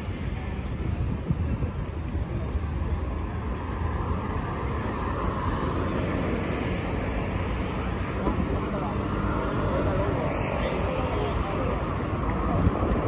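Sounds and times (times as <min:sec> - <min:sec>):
road vehicles rumbling past: 0:00.0 - 0:13.0.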